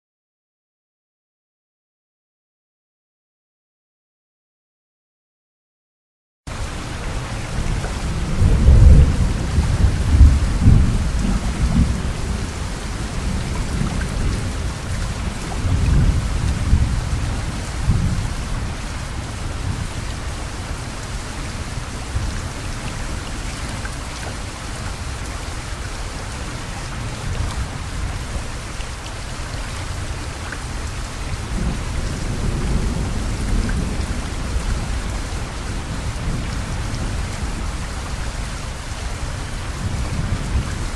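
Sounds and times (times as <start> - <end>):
heavy rain falling: 6.5 - 40.9.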